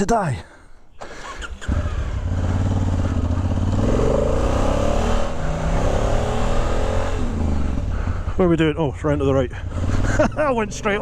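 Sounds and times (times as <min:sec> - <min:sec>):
motorcycle engine accelerating: 0:01.0 - 0:11.0.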